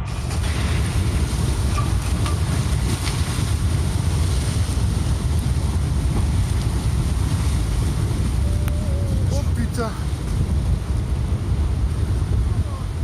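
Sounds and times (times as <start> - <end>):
mud avalanche rumbling: 0.0 - 13.0
wind buffeting microphone: 0.0 - 13.0.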